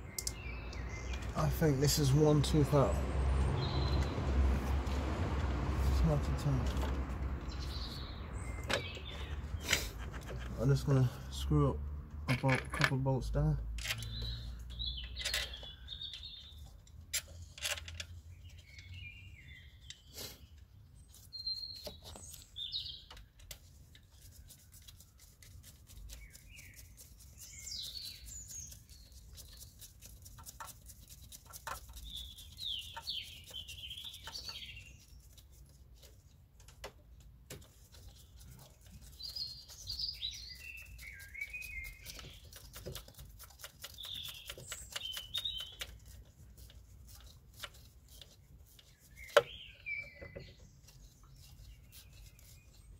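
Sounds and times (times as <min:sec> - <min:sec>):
small birds chirping: 0:00.0 - 0:05.0, 0:05.8 - 0:52.9.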